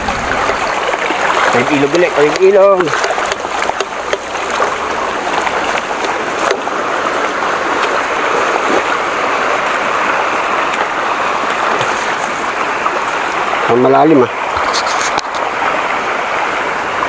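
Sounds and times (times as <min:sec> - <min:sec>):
light splashes from wading: 0:00.0 - 0:13.7
river rushing over stones: 0:00.0 - 0:17.0.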